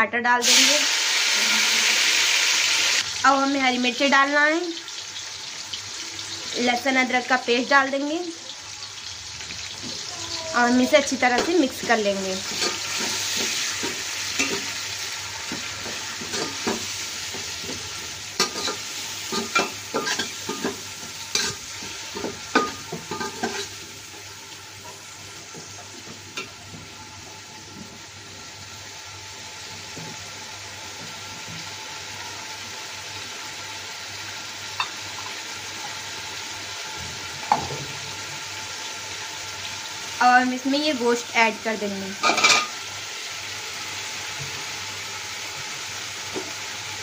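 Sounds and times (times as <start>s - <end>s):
food frying in oil: 0.4s - 47.0s.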